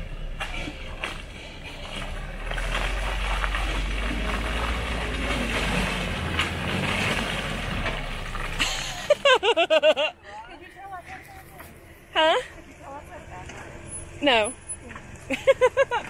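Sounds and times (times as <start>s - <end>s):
engine running at low speed: 0.0s - 9.6s, 10.8s - 16.0s.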